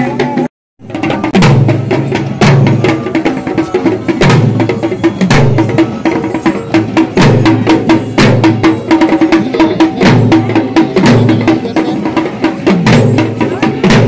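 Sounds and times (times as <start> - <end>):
sharp drum and wood-block strokes: 0.0 - 14.0.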